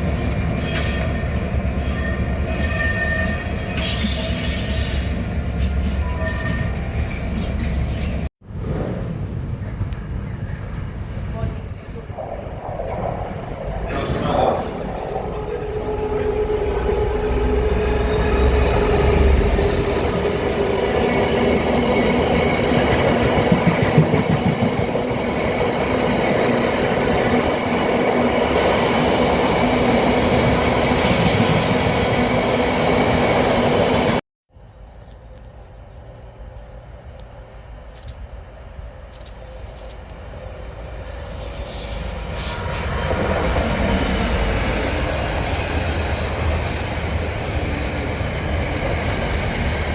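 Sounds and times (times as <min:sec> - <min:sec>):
train approaching: 0:00.0 - 0:49.9
train passing close by: 0:00.0 - 0:49.9.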